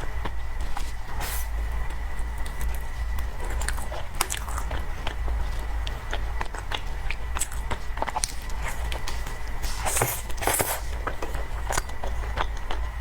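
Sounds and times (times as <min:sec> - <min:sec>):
chewing soft cake: 0:00.0 - 0:13.0.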